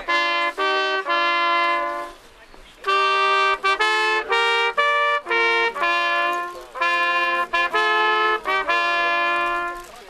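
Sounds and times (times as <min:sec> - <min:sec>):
trumpet playing slow melody: 0:00.0 - 0:02.2, 0:02.8 - 0:10.0.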